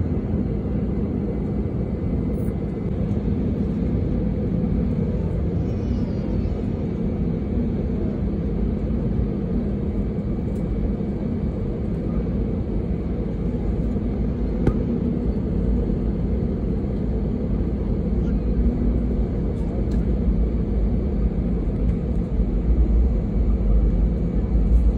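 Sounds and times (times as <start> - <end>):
low rumble with steady hum: 0.0 - 24.9.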